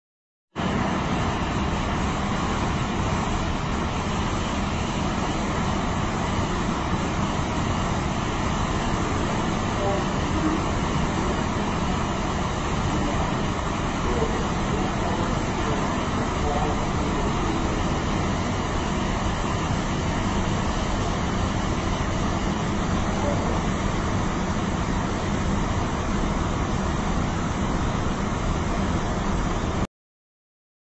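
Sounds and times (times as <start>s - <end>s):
ship rumble: 0.6s - 29.8s.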